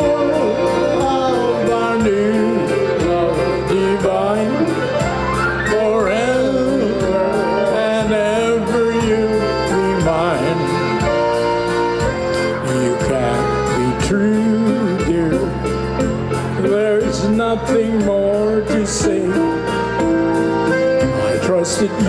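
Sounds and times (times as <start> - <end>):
accordion: 0.0 - 22.0
keyboards: 0.0 - 22.0
polka band playing: 0.0 - 22.0.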